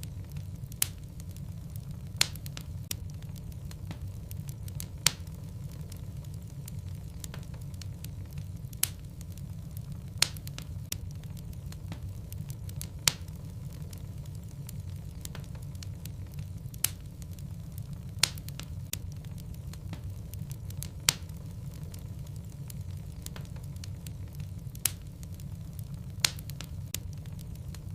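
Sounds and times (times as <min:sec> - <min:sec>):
fire rumbling and crackling: 0:00.0 - 0:27.9
sharp pops of burning wood: 0:00.0 - 0:27.9.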